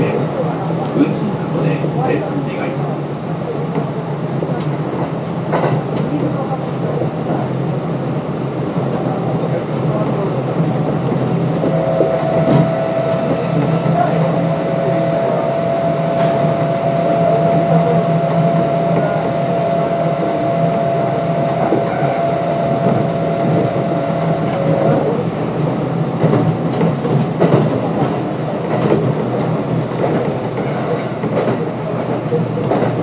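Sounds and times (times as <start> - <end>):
train running gear rumble: 0.0 - 33.0.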